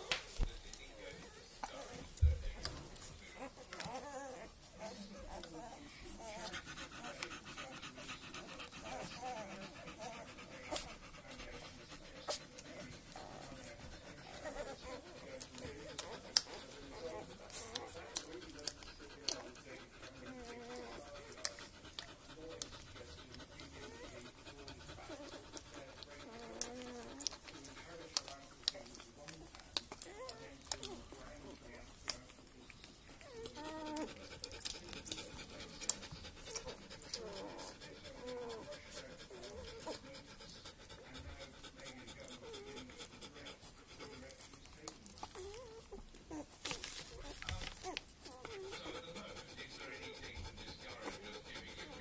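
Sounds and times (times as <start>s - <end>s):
puppies grunting and squeaking: 0.9s - 52.0s.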